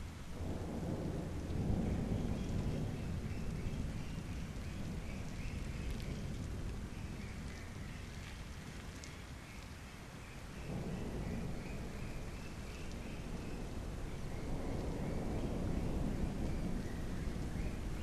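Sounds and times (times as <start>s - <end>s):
distant thunder rumble: 0.0s - 9.0s, 10.5s - 18.0s
rain falling: 0.0s - 18.0s.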